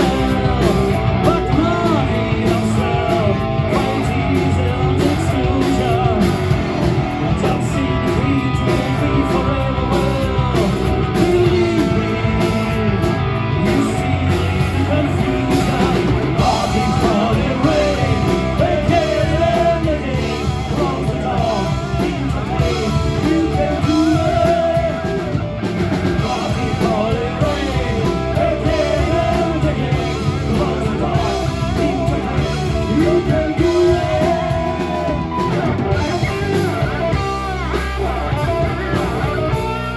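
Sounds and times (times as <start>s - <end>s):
drum kit: 0.0s - 39.9s
electric guitar: 0.0s - 39.9s
person singing: 0.0s - 39.9s.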